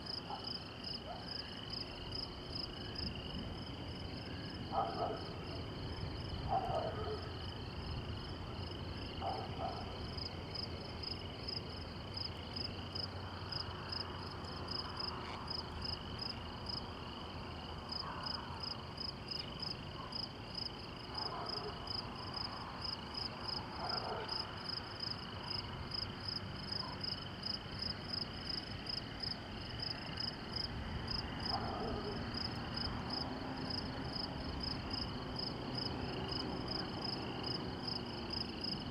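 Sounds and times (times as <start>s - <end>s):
insects chirping in chorus: 0.0s - 38.9s.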